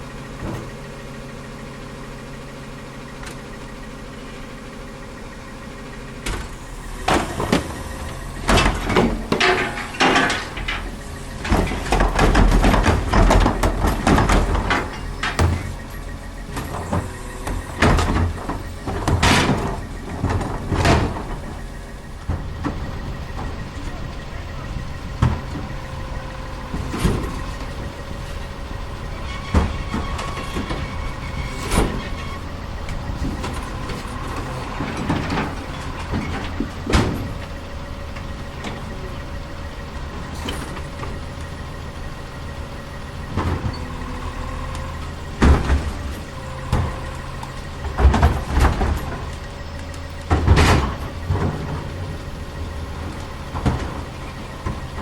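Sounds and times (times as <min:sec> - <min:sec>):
garbage truck engine whine: 0:00.0 - 0:55.0
trash collection bangs and clatter: 0:00.0 - 0:55.0.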